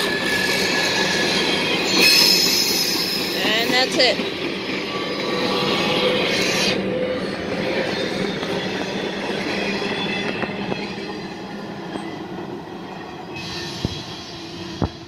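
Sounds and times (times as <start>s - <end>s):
wheel squeal: 0.0s - 3.7s, 4.7s - 11.3s, 12.9s - 14.8s
train wheels rumbling on rails: 0.0s - 15.0s.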